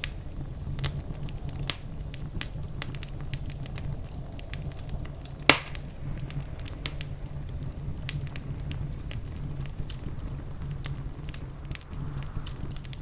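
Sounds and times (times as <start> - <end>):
low steady rumble: 0.0 - 13.0
wood fire crackling: 0.0 - 13.0.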